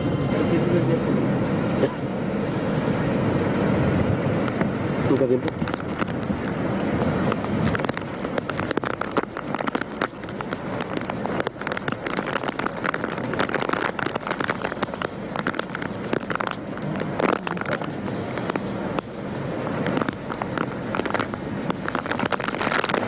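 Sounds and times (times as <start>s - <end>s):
rushing wind: 0.0s - 23.0s
heavy rain hitting surfaces: 3.8s - 23.0s.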